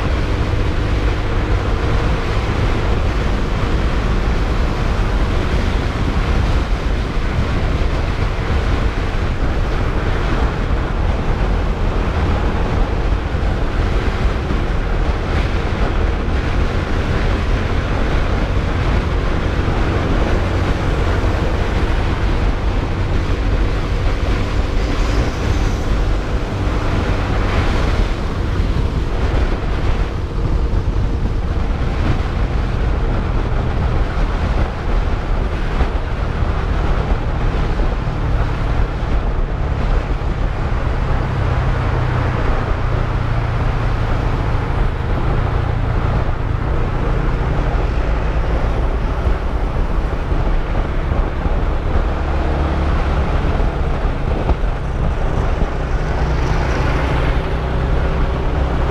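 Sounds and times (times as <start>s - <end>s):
motorcycle engine running: 0.0s - 58.9s
wind rush on microphone: 0.0s - 58.9s.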